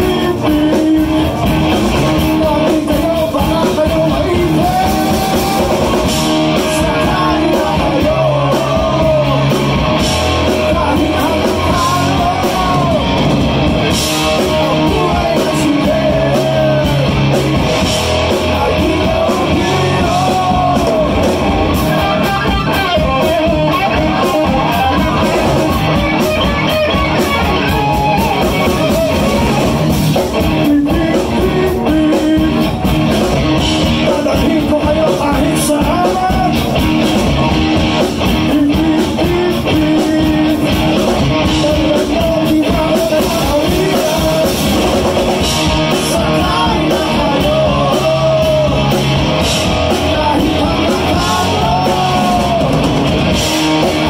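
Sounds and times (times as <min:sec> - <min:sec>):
man singing: 0:00.0 - 0:37.3, 0:38.1 - 0:54.0
rock band playing: 0:00.0 - 0:54.0.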